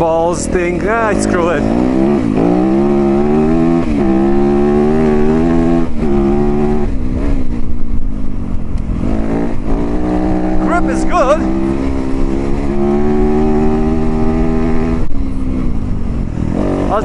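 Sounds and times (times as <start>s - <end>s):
dirt bike engine revving: 0.0s - 7.7s, 8.3s - 17.0s.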